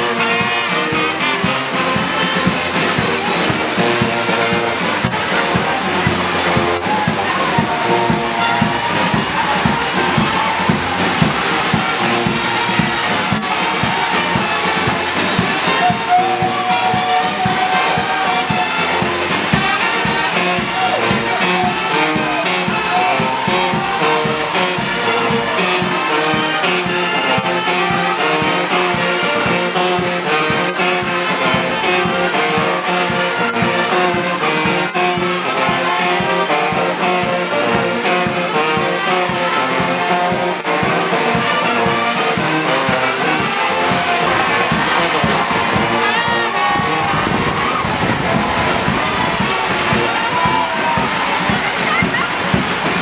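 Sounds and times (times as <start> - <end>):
brass band marching music: 0.0 - 53.0.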